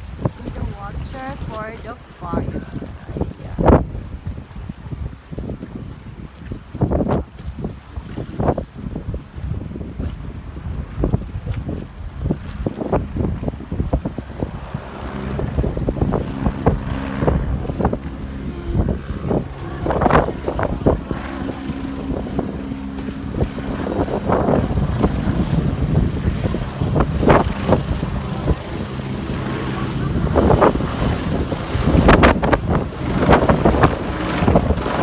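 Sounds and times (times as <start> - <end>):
helicopter drone: 0.0 - 4.3, 10.4 - 35.0
wind buffeting microphone: 0.0 - 35.0.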